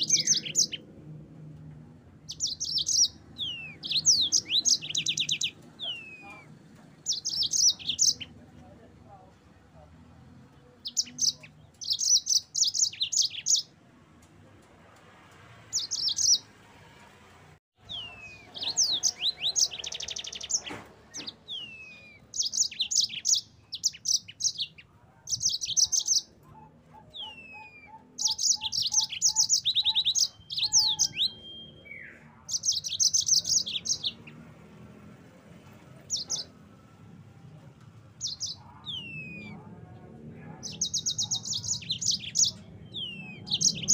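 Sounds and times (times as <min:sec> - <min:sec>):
canary singing trills: 0:00.0 - 0:01.0, 0:02.2 - 0:08.4, 0:10.5 - 0:13.8, 0:15.7 - 0:16.5, 0:17.8 - 0:37.2, 0:38.0 - 0:43.9.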